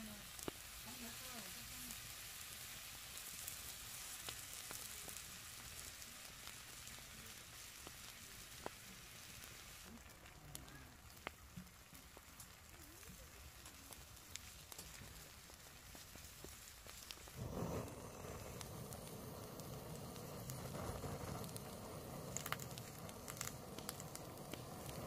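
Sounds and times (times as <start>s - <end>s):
crackles and ticks: 0.0s - 2.1s, 3.1s - 25.0s
chicken feet sizzling in a pan: 0.0s - 25.0s.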